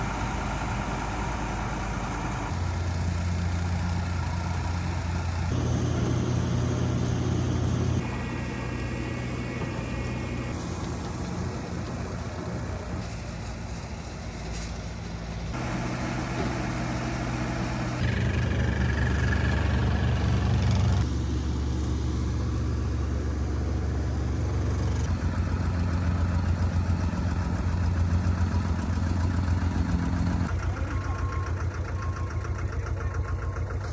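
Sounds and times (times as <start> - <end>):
heavy paving equipment engines: 0.0 - 33.9.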